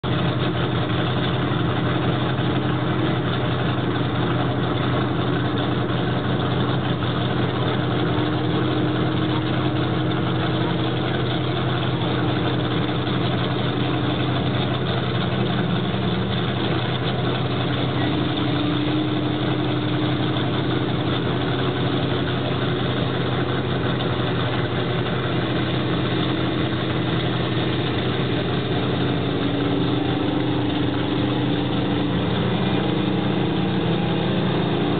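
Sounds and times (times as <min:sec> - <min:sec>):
monster truck engine running: 0:00.0 - 0:34.9.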